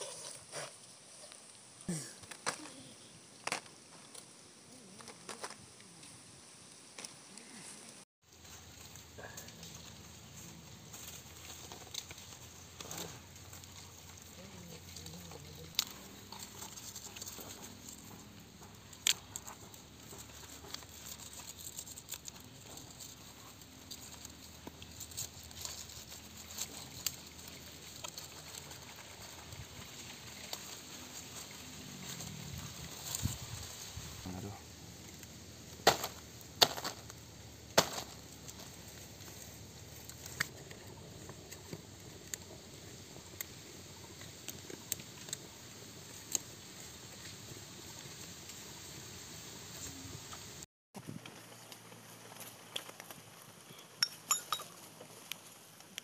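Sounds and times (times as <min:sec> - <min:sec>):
banana leaf rustling and crackling: 0:00.0 - 0:54.1
faint outdoor background: 0:00.0 - 0:56.0.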